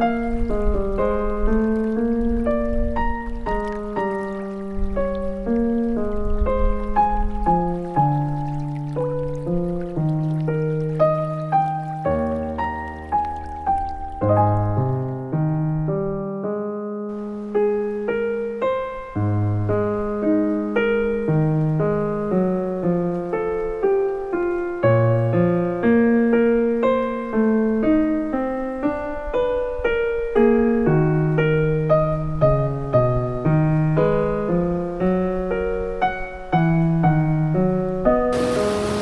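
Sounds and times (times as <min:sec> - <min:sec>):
slow solo piano melody: 0:00.0 - 0:39.0.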